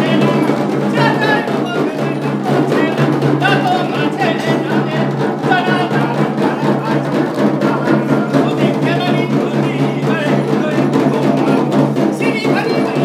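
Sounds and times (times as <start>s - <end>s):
frame drums beating: 0.0s - 13.0s.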